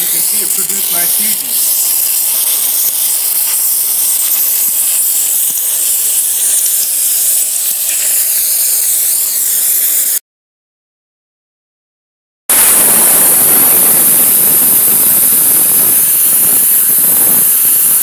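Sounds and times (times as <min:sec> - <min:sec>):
plasma torch hissing: 0:00.0 - 0:10.2, 0:12.5 - 0:18.0.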